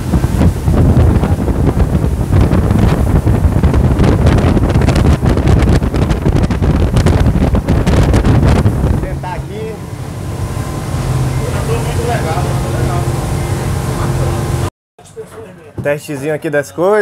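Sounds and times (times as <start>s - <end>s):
water rushing along hull: 0.0s - 14.7s
wind buffeting microphone: 0.0s - 14.7s.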